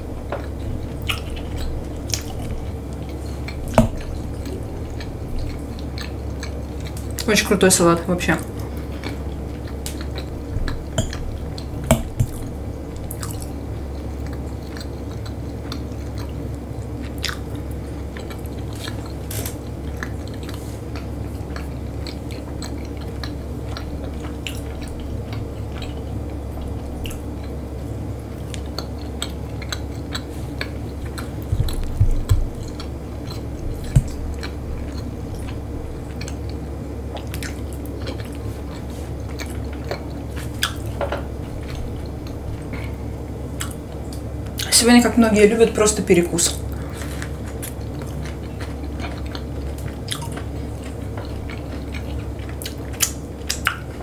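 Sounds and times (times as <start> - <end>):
steady low hum: 0.0 - 54.0
person chewing food: 0.1 - 7.3, 8.4 - 44.7, 46.6 - 54.0.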